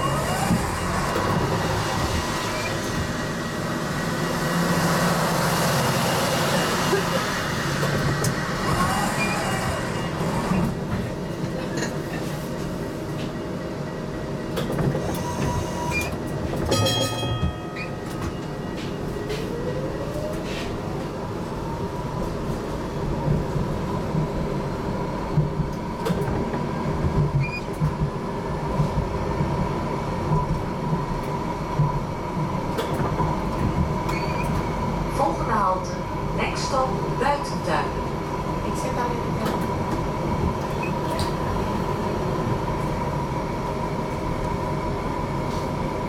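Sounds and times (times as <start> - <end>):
tram running: 0.0 - 46.0.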